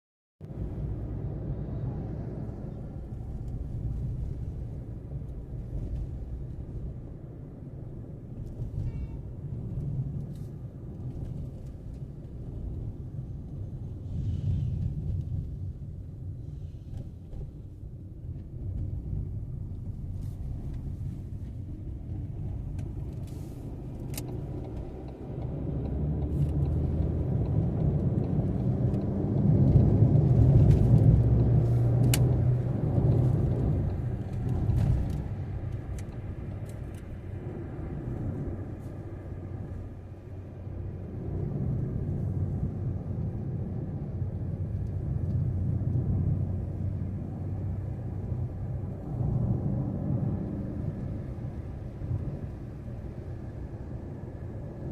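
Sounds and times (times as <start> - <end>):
road vehicle rumble: 0.4 - 54.9.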